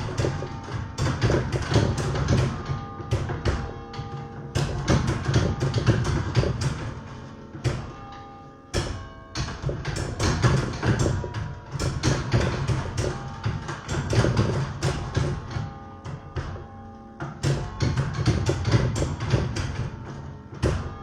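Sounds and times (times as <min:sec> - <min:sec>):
church bells playing carol tune: 0:00.0 - 0:21.0.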